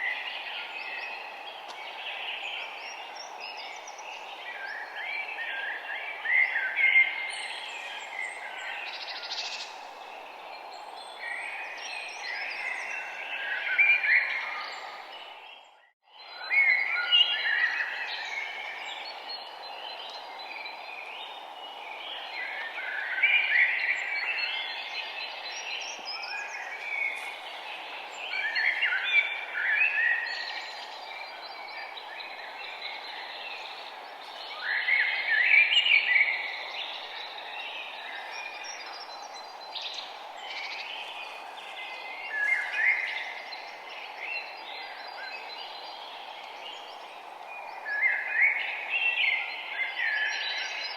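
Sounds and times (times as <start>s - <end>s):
songbirds singing: 0.0s - 50.9s.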